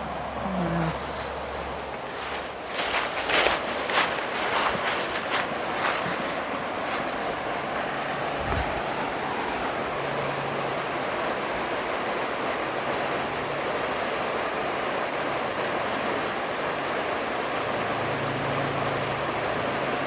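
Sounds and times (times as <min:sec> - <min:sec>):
river water rushing over rapids: 0:00.0 - 0:20.0.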